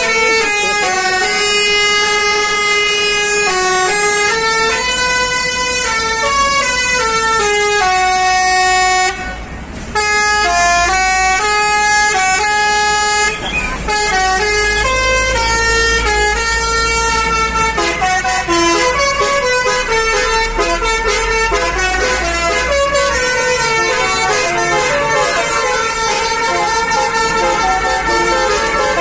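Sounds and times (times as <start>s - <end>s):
musical bus horn melody: 0.0s - 29.0s.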